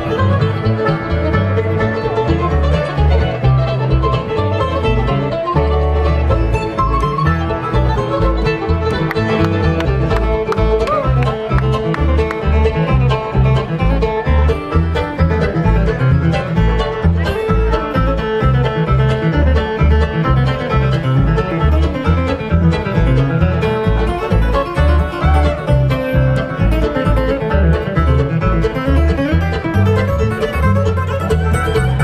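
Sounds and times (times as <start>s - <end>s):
acoustic guitar: 0.0s - 32.0s
banjo: 0.0s - 32.0s
low bass beat: 0.0s - 32.0s.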